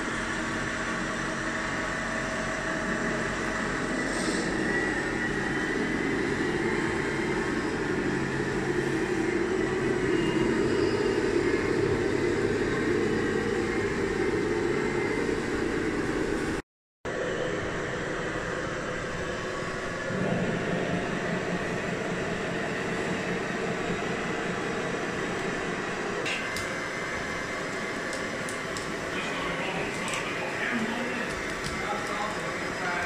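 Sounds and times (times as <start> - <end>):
electric motors and pumps whirring: 0.0 - 33.0.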